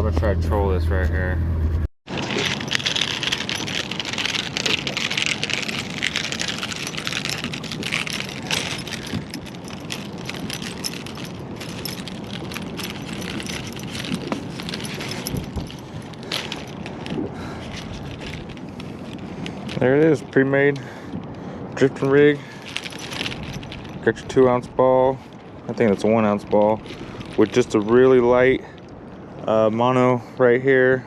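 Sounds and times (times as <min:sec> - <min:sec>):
boat noise: 0:00.0 - 0:30.2
steady wind: 0:00.0 - 0:31.0
fishing weights clicking and rattling: 0:02.1 - 0:21.0, 0:22.0 - 0:24.6, 0:25.2 - 0:28.9.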